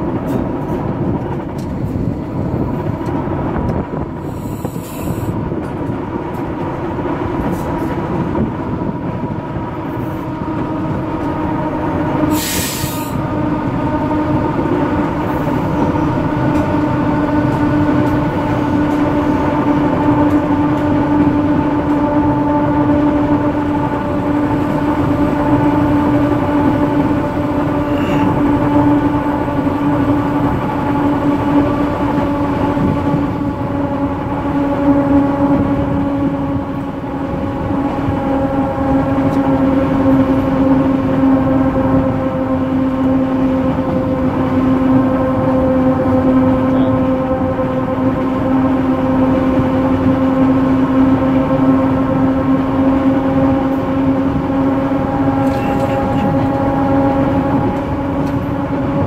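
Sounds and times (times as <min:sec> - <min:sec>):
diesel train engine drone: 0:00.0 - 0:59.0
wheels rumbling on rails: 0:00.0 - 0:59.0.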